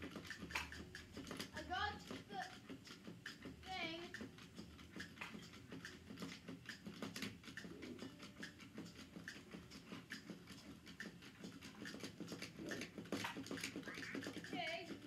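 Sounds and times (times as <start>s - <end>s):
toy clicking along tabletop: 0.0s - 15.0s.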